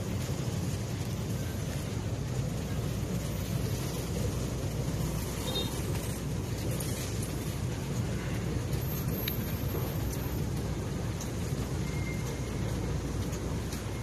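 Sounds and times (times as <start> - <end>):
low urban background rumble: 0.0 - 14.0.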